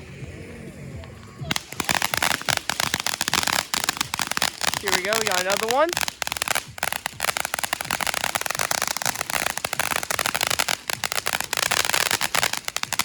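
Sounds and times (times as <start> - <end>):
firework pops and crackles: 1.0 - 13.0
firework fizzing hiss: 1.4 - 13.0.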